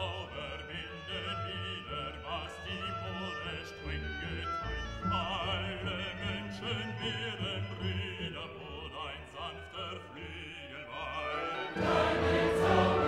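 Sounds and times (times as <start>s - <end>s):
classical singing over orchestra: 0.0s - 13.0s.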